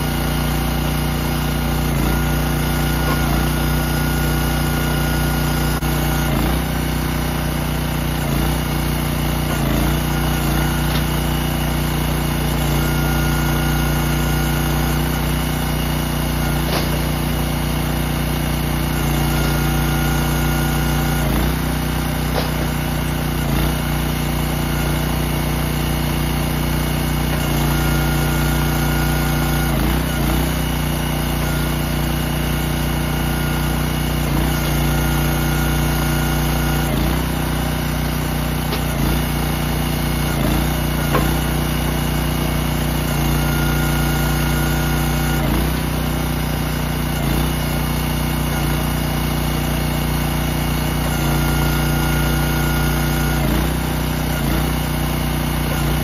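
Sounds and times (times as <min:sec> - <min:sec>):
hydraulic whine: 0:00.0 - 0:56.0
small gas engine running: 0:00.0 - 0:56.0.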